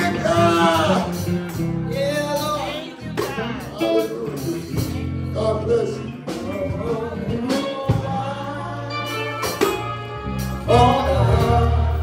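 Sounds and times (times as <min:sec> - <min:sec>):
singing: 0:00.0 - 0:09.6, 0:10.6 - 0:12.0
electric bass guitar: 0:00.0 - 0:12.0.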